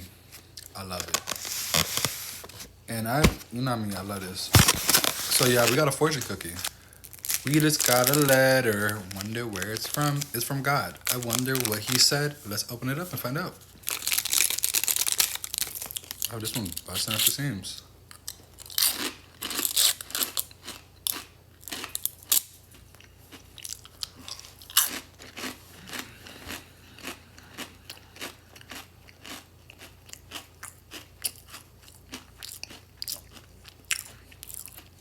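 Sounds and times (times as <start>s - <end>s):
cookie crunched and chewed: 4.4s - 12.2s, 13.8s - 17.4s, 18.1s - 35.0s.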